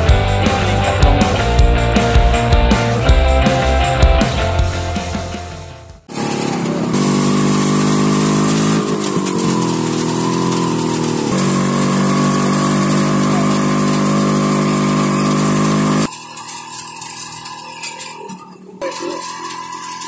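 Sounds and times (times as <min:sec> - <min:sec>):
motorcycle engine running: 0:00.0 - 0:16.1.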